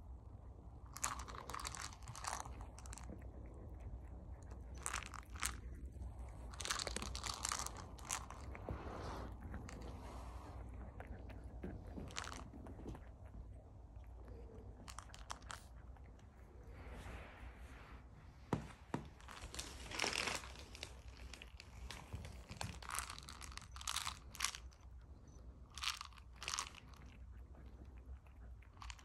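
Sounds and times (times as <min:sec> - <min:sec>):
kittens crunching dry kibble: 0:00.0 - 0:18.1, 0:19.0 - 0:29.0.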